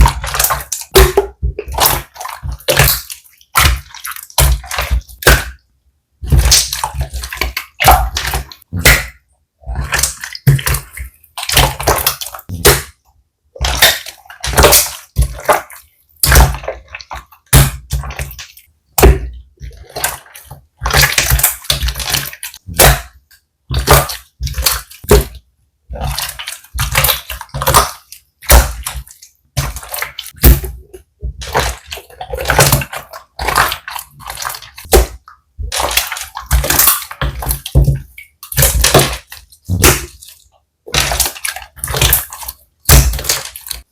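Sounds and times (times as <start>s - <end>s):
slime squishing: 0.0s - 5.6s, 6.2s - 43.9s.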